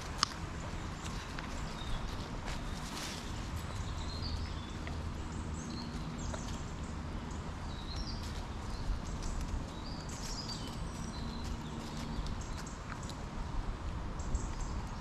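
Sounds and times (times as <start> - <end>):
small birds chirping: 0.0 - 13.3, 14.2 - 15.0
steady low rumble: 0.0 - 15.0.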